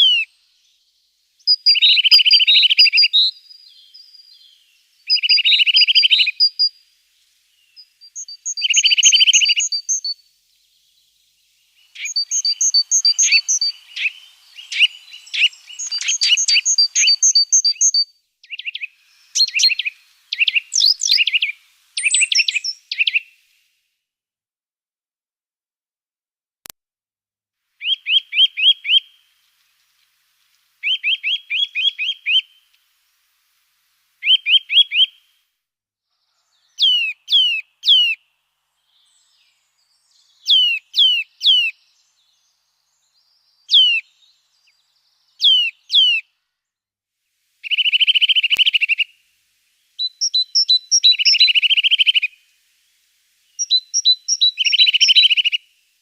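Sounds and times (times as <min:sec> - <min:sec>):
songbirds singing: 0:00.0 - 0:23.6, 0:27.8 - 0:33.0, 0:34.2 - 0:35.3, 0:36.1 - 0:46.5, 0:47.6 - 0:56.0.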